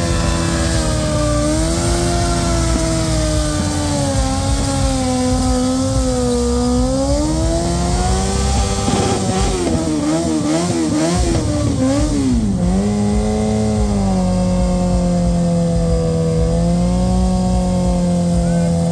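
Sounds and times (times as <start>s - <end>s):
motorcycle engine revving high: 0.0s - 18.9s.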